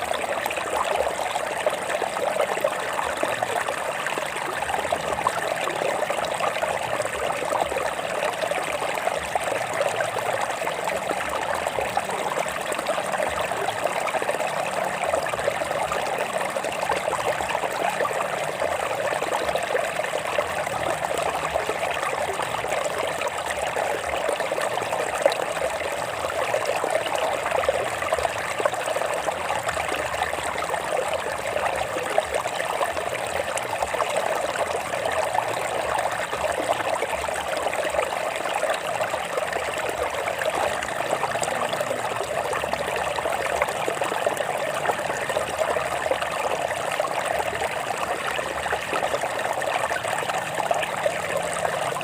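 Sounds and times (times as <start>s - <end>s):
stream babbling over rocks: 0.0s - 52.0s.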